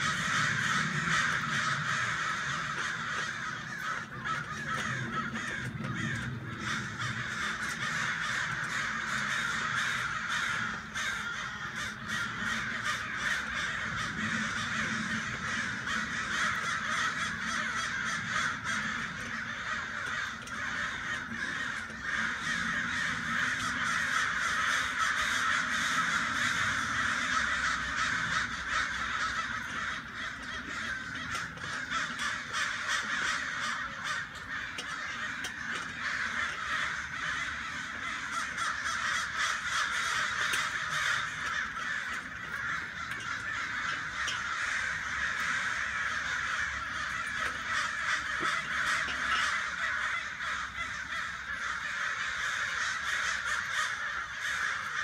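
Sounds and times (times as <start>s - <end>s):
flock of crows cawing: 0.0s - 55.0s.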